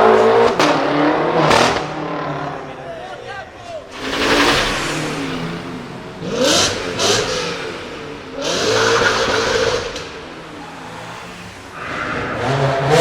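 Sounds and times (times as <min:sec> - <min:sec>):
car engine revving: 0:00.0 - 0:03.0, 0:03.8 - 0:13.0.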